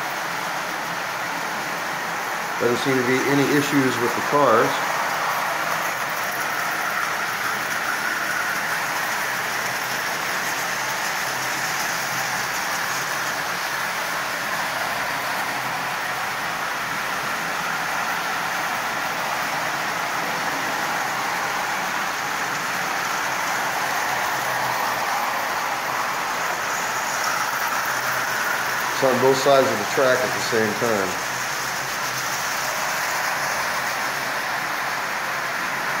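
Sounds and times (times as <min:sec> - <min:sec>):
toy train wheels rolling on rails: 0:00.0 - 0:36.0.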